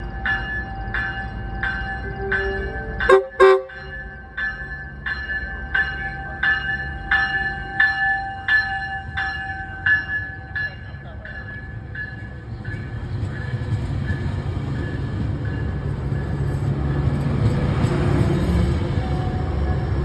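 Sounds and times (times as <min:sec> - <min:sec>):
railroad crossing bell ringing: 0:00.0 - 0:20.0
train rumbling: 0:00.0 - 0:20.0.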